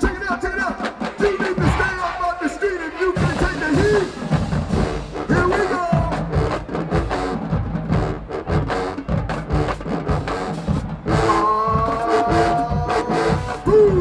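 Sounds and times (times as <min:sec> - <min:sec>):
drum hits: 0:00.0 - 0:02.3, 0:03.1 - 0:14.0
marching band playing: 0:00.0 - 0:14.0.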